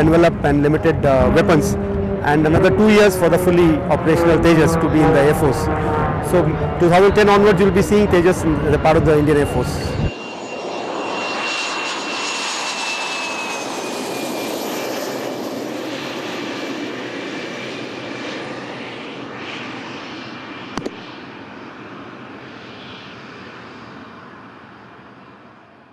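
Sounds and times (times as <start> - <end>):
jet engine whining: 0.0 - 25.9.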